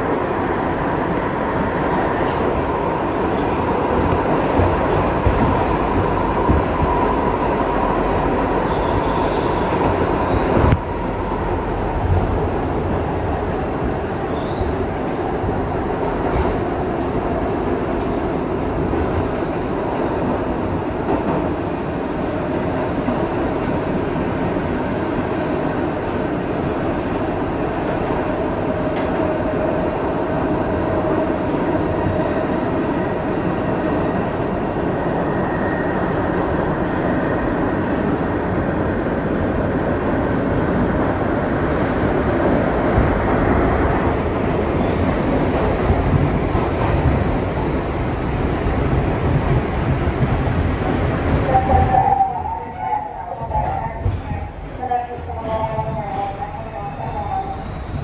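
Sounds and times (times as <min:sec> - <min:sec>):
subway train wheels rumbling on rail: 0:00.0 - 0:58.0.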